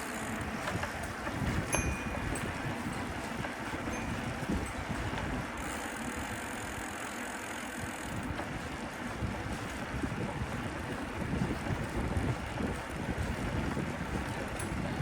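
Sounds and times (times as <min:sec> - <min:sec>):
wind buffeting microphone: 0:00.3 - 0:06.8, 0:07.8 - 0:15.0.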